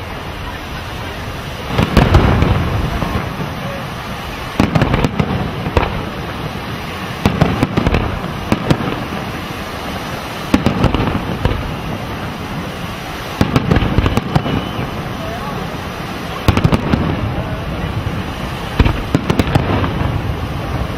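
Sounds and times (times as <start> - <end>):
steady background noise: 0.0 - 20.9
firework shells bursting: 1.6 - 15.2, 16.0 - 17.3, 18.0 - 20.8.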